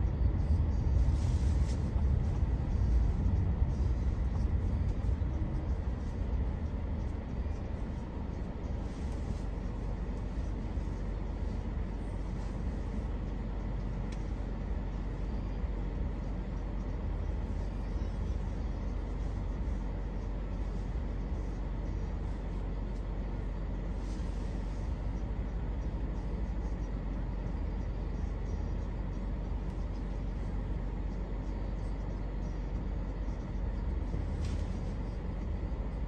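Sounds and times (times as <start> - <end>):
car interior road rumble: 0.0 - 36.0.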